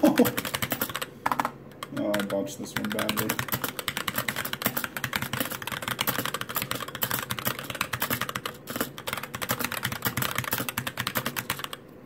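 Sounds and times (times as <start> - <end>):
fast typing on mechanical keyboard: 0.0 - 11.8.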